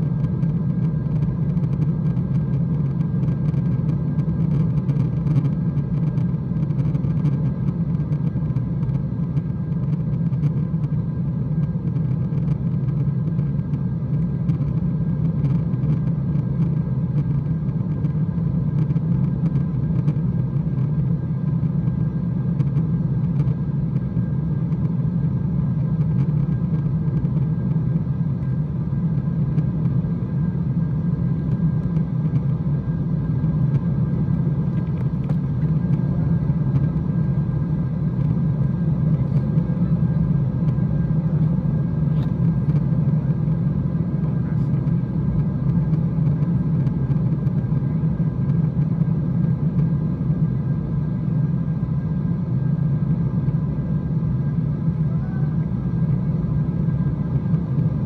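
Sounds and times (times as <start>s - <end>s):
jet cabin drone: 0.0s - 58.0s.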